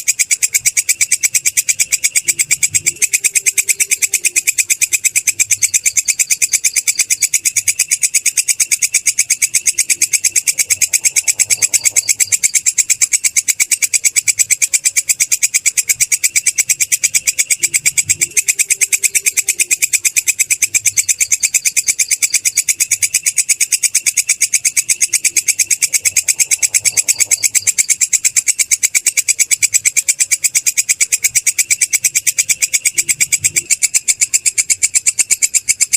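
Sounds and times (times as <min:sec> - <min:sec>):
grasshopper chirring: 0:00.0 - 0:35.9.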